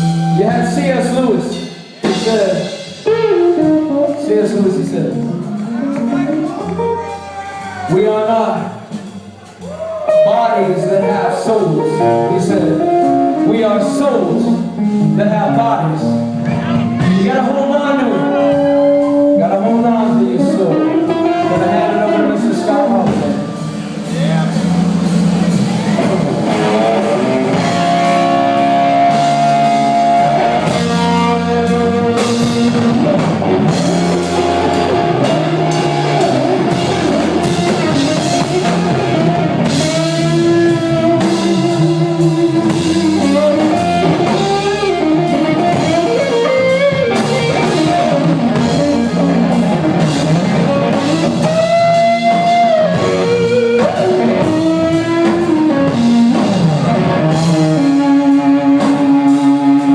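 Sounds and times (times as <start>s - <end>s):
drum kit: 0.0s - 59.9s
electric guitar lead: 0.0s - 59.9s.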